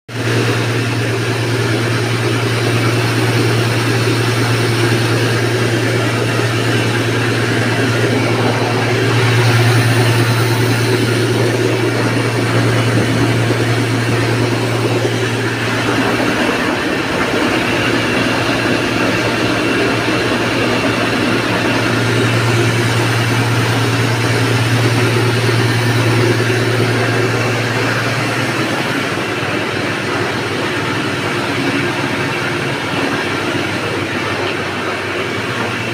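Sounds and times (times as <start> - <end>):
machine hum: 0.1 - 35.9
stone flour mill running: 0.1 - 35.9
rushing grinding noise: 0.2 - 35.9.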